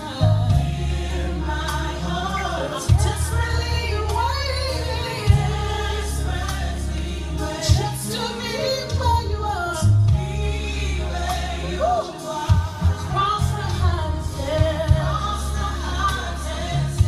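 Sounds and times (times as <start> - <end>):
gospel song over loudspeakers: 0.0 - 17.0.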